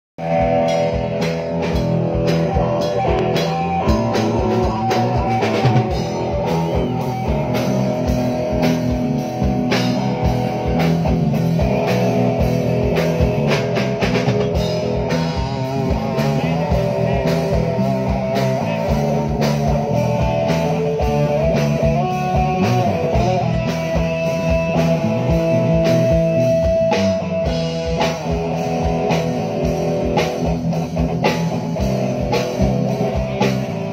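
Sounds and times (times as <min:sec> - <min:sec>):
drum kit: 0:00.2 - 0:33.9
electric guitars playing: 0:00.2 - 0:33.9.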